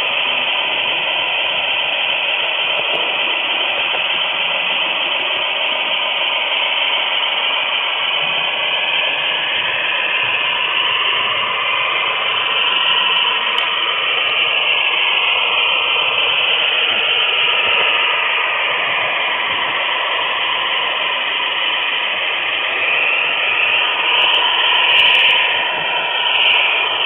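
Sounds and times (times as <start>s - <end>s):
model train whirring: 0.0s - 27.0s.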